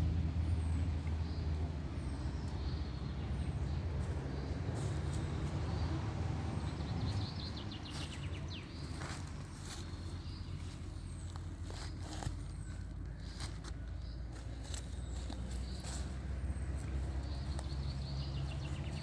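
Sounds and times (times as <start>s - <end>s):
car engine humming: 0.0s - 19.0s
birds chirping: 0.4s - 19.0s.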